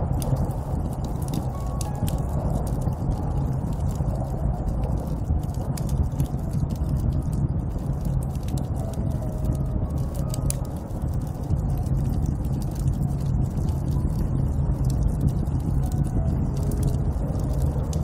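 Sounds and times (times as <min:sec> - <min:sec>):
small crackles: 0:00.0 - 0:18.0
snowstorm wind blowing: 0:00.0 - 0:18.0.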